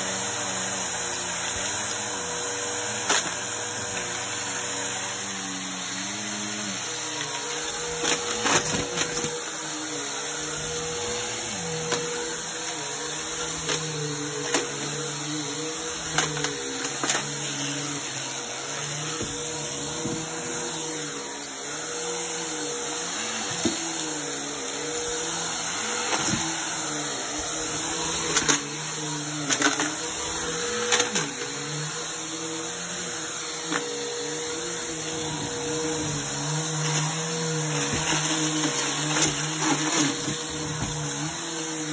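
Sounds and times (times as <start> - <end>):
upright vacuum cleaner running: 0.0 - 41.9.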